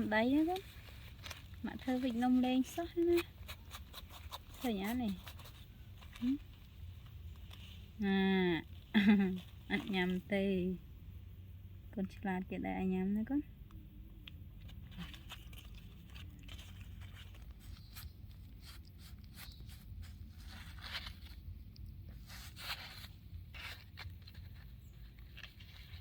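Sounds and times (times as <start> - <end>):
faint rustling and crackling: 0.0 - 10.8, 14.2 - 26.0.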